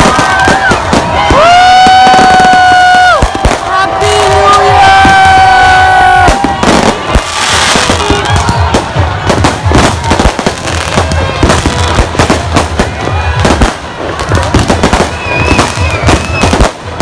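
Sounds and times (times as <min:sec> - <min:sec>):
fireworks bangs and cracks: 0:00.0 - 0:17.0
party music with bass beat: 0:00.0 - 0:17.0.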